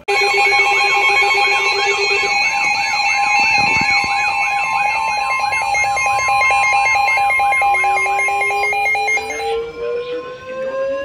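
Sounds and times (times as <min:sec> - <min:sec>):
pulsing alarm beeps: 0:00.0 - 0:09.7
slowly rising tone: 0:00.0 - 0:09.7
warbling alarm sweeps: 0:00.0 - 0:09.7
steady warning tone: 0:00.0 - 0:10.4.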